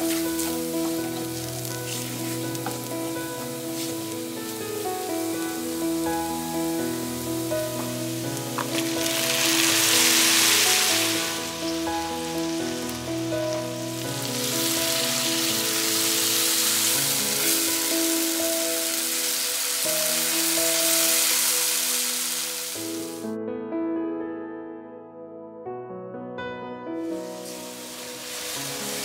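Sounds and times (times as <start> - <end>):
tomatoes sizzling in hot oil: 0.0 - 23.2, 27.4 - 29.0
soft background music: 0.0 - 23.4, 26.4 - 29.0.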